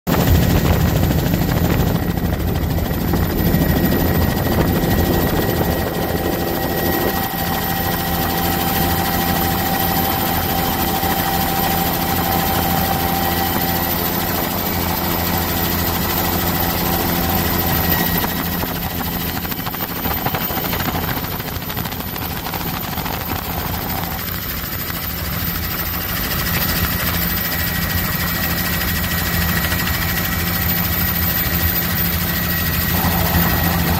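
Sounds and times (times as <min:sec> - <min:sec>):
helicopter rotor and engine hum: 0:00.1 - 0:33.9.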